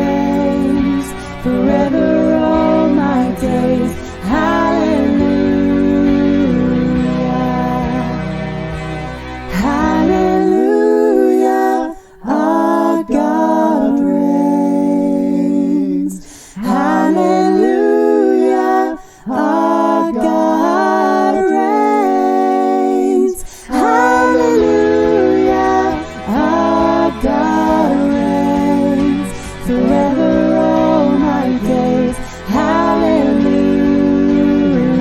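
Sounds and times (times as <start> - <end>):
voices singing in harmony: 0.0 - 35.0.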